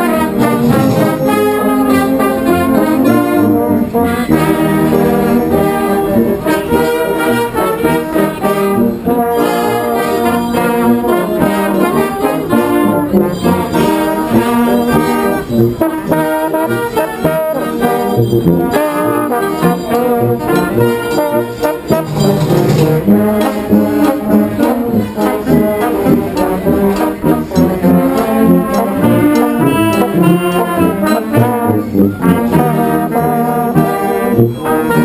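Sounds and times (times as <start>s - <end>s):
brass band playing: 0.0s - 35.0s.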